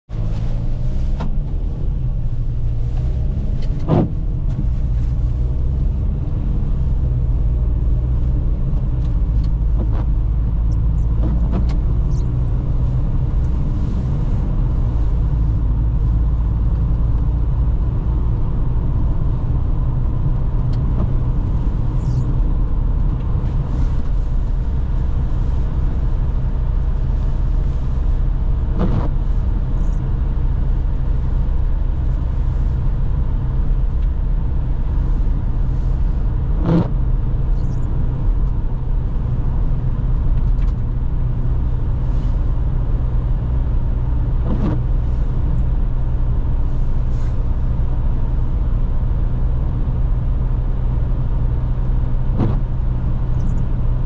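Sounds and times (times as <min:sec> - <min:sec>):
car engine drone: 0:00.1 - 0:54.0
tyre rumble on wet road: 0:00.1 - 0:54.0.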